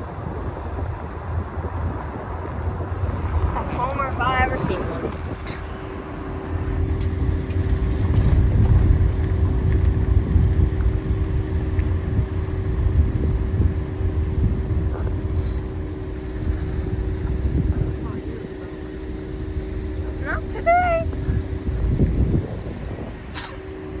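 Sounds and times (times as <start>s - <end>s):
constant hum: 0.0s - 24.0s
diesel engine rumbling: 0.0s - 24.0s.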